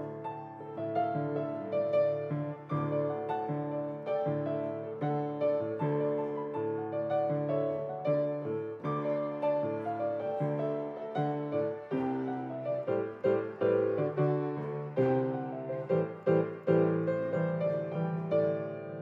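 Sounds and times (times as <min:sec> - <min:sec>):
slow piano playing: 0:00.0 - 0:19.0.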